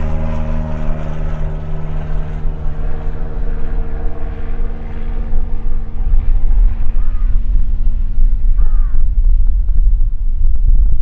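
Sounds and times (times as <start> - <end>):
propeller engine idling: 0.0 - 10.8.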